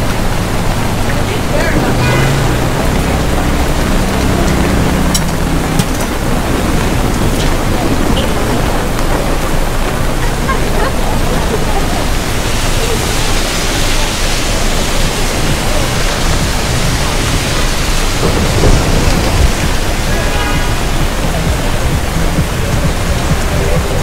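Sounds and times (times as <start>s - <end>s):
heavy rain on street: 0.0s - 24.0s
low rumble: 0.0s - 24.0s.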